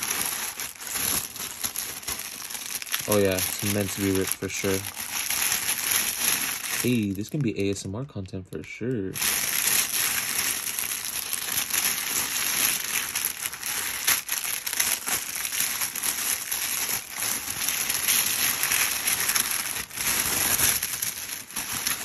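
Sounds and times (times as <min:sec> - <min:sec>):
wrapping ripping: 0:00.0 - 0:08.3, 0:09.1 - 0:22.0
wrapping crinkling and crackling: 0:00.0 - 0:22.0.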